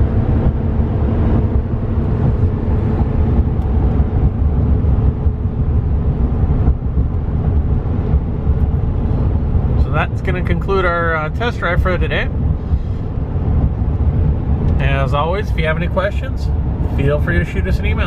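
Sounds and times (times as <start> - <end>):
pickup cabin rumble: 0.0 - 18.0.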